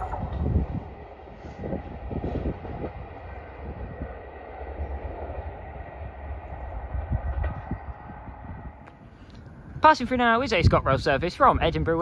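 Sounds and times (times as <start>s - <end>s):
train engines and wheels rumbling: 0.0s - 12.0s.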